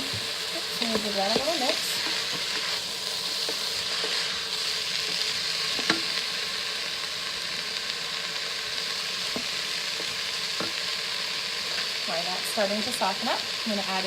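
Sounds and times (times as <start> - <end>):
meat and onions sizzling: 0.0 - 14.0.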